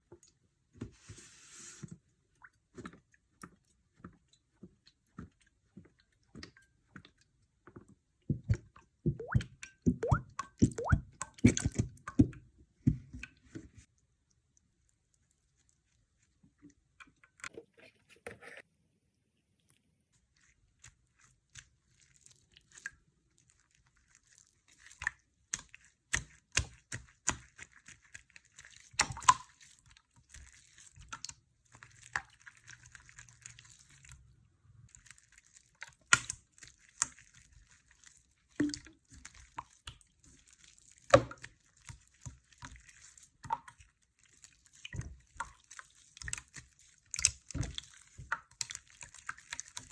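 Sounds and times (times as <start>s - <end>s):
slime squelching by hand: 0.2s - 17.0s, 19.4s - 49.9s.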